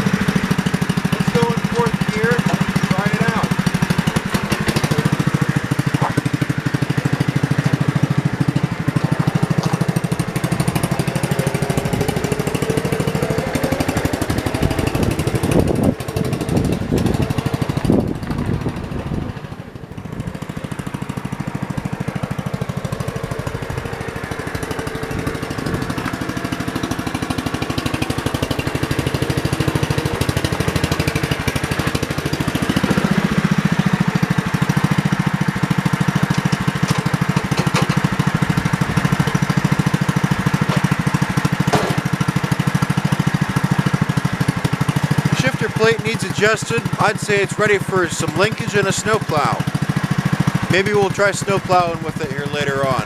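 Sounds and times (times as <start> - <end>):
garden tractor engine running: 0.0 - 53.0.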